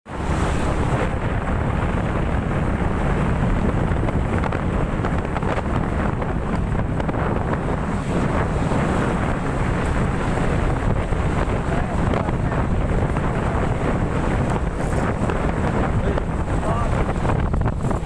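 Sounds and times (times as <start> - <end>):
wind buffeting microphone: 0.1 - 18.0.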